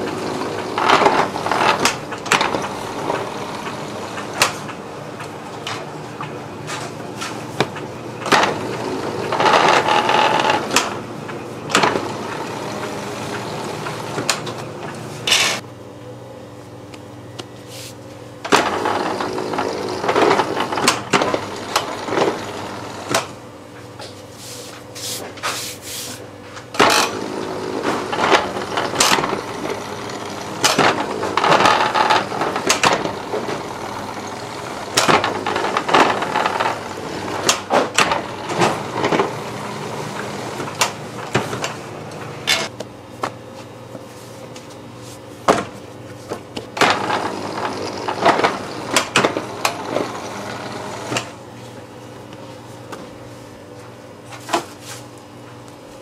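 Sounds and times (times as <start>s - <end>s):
dough sheeter motor hum: 0.0s - 56.0s.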